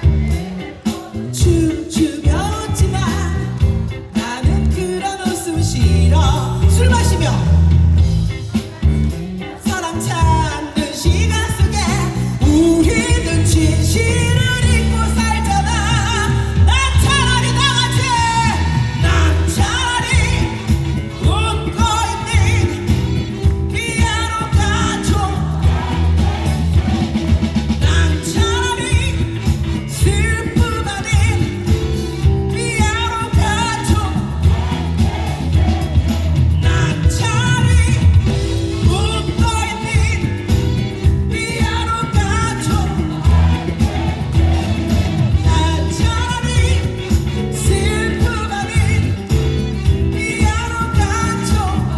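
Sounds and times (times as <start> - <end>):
woman singing: 0.0 - 7.8, 8.4 - 27.2, 27.8 - 51.9
heavy bass line: 0.0 - 51.9
live pop-rock band: 0.0 - 51.9
steady drums: 0.0 - 51.9.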